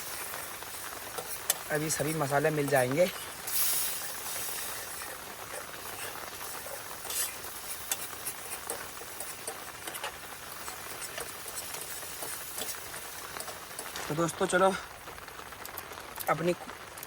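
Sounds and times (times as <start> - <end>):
spoon scraping against pan: 0.0 - 14.0
liquid sizzling in a pan: 0.0 - 17.0.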